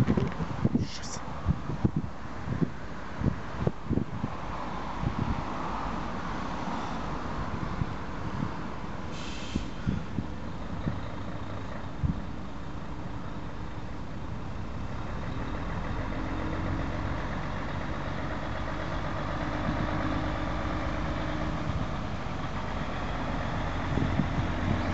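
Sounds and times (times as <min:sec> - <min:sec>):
light-rail train rumbling: 0:00.0 - 0:24.9.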